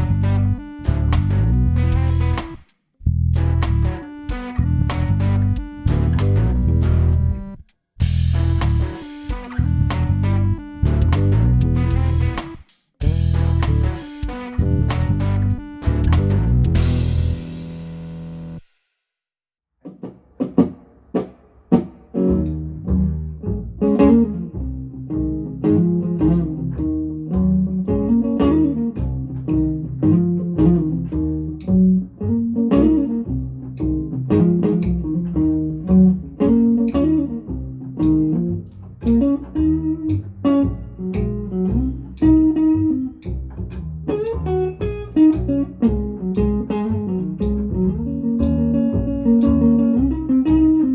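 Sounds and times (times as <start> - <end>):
guitar music with bass: 0.0 - 18.6, 21.7 - 50.9.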